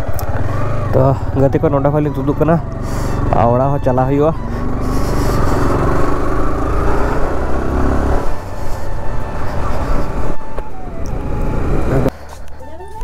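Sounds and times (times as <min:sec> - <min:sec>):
motorcycle engine accelerating: 0:00.0 - 0:12.1
road and wind noise: 0:00.0 - 0:13.0.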